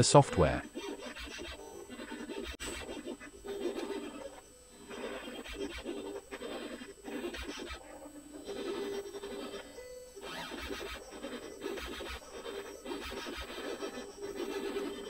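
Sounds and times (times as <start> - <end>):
robot arm motors whirring: 0.0 - 15.0
pen scratching on paper: 0.8 - 15.0.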